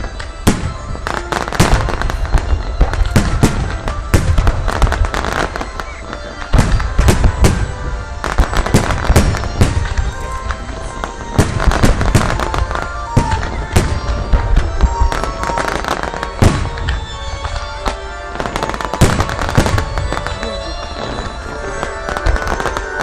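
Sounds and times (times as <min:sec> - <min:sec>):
fireworks bangs: 0:00.0 - 0:23.0
music playing: 0:00.0 - 0:23.0.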